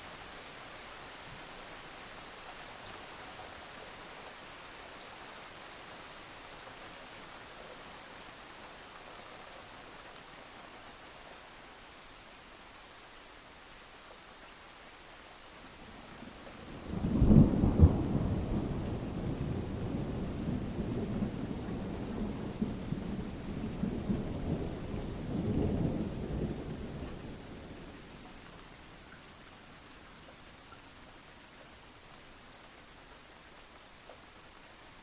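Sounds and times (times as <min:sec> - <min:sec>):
steady rain: 0:00.0 - 0:35.0.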